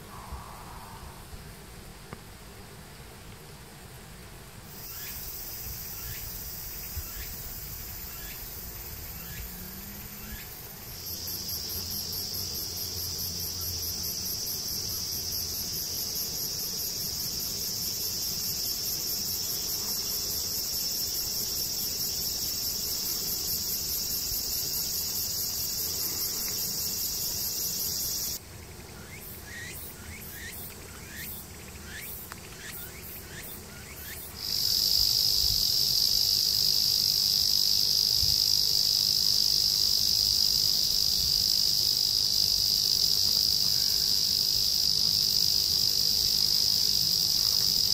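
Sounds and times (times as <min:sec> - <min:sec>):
insects buzzing: 0:00.0 - 0:47.9.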